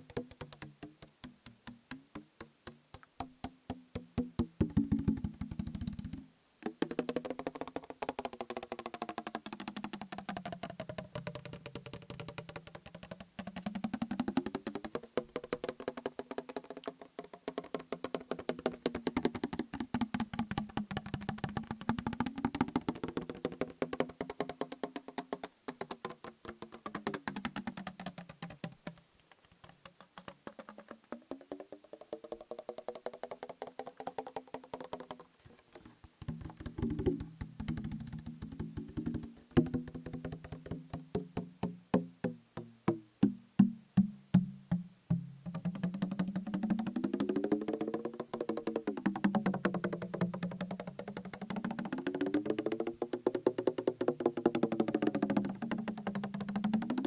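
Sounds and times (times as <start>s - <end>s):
fingertip tapping on plastic bottle: 0.0s - 57.0s.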